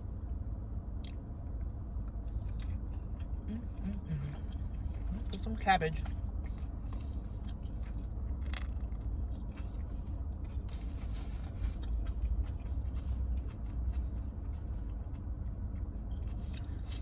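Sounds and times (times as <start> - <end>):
steady low hum: 0.0 - 17.0
chewing and biting food: 0.3 - 17.0.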